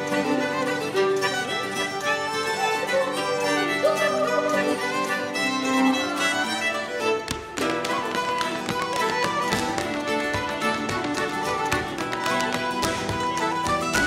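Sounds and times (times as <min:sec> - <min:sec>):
fiddle playing a reel: 0:00.0 - 0:14.0.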